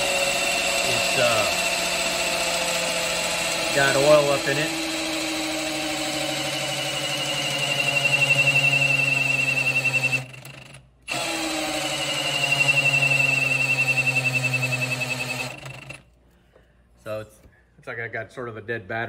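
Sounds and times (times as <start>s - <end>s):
cordless drill whining: 0.0s - 16.1s.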